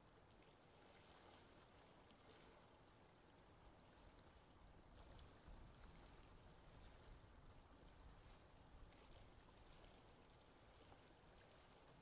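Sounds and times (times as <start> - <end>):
water lapping with small splashes: 0.1 - 12.0.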